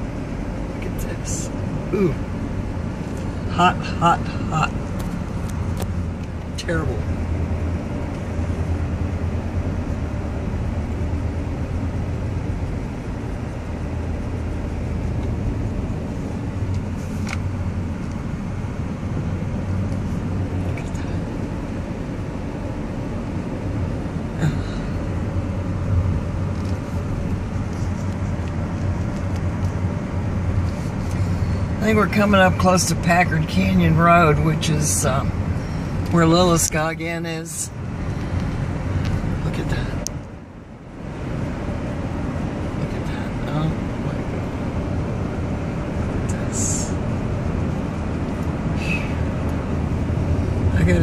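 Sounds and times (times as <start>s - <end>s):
car road and engine rumble: 0.0s - 51.0s.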